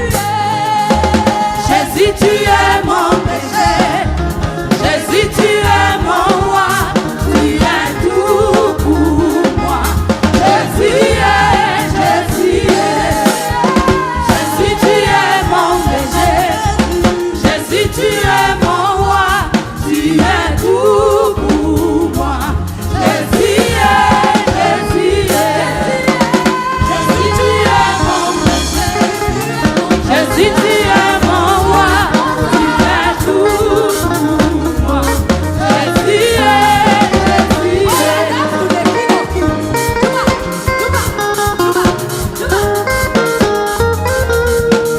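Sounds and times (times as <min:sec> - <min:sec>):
lead vocalist singing: 0:00.0 - 0:41.2
gospel choir singing: 0:00.0 - 0:44.7
live band with drum kit: 0:00.0 - 0:44.9.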